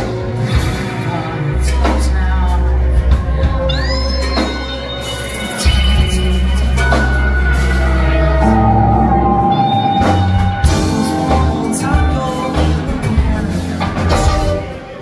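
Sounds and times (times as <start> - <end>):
live rock band: 0.0 - 15.0
person singing: 0.8 - 15.0.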